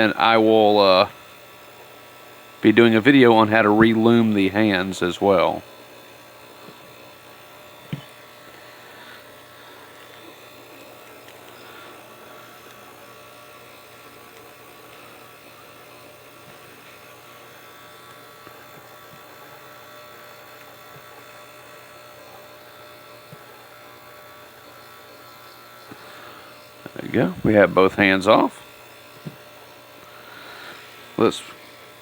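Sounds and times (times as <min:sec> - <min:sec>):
electrical hum and buzz: 0:00.0 - 0:32.0.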